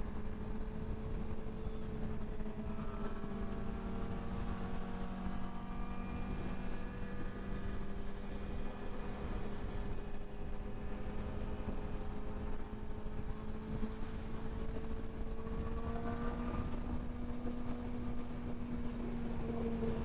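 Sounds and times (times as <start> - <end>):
motorcycle engine hum: 0.0 - 20.0
wind and road noise: 0.0 - 20.0.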